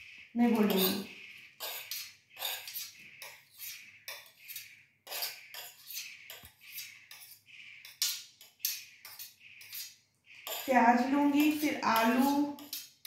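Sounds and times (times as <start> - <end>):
steel spoon scraping metal plate: 0.4 - 13.0.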